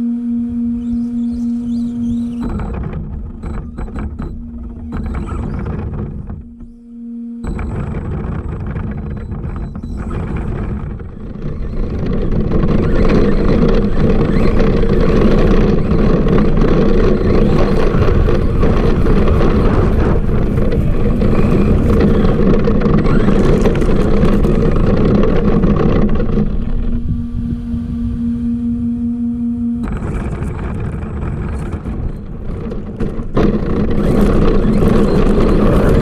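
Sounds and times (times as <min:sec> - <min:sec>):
toy truck motor and tyre noise: 0:00.9 - 0:06.8, 0:07.4 - 0:27.4, 0:29.8 - 0:36.0.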